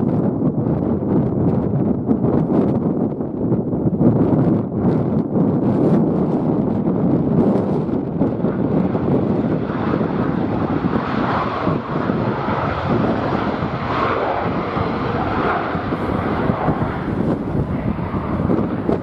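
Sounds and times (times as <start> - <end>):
jet engines: 0.0 - 19.0
wind buffeting microphone: 0.0 - 19.0.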